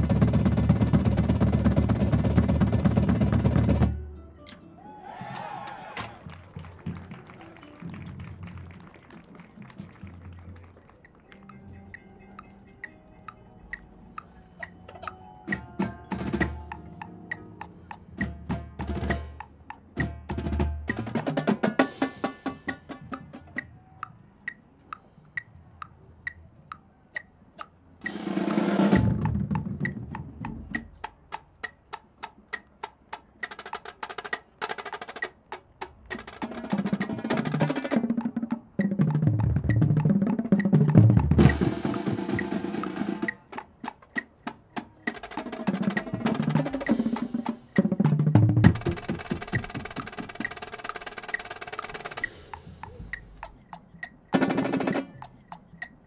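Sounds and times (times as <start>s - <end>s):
drumline playing: 0.0s - 4.0s, 4.9s - 25.1s, 27.6s - 56.0s.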